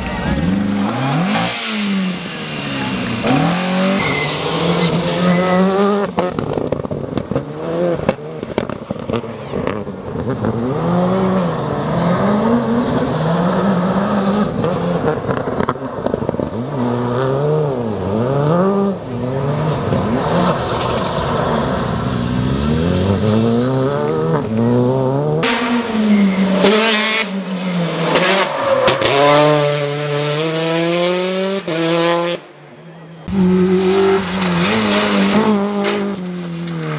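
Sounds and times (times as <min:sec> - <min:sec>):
rally car engine revving: 0:00.0 - 0:32.4, 0:33.2 - 0:36.9.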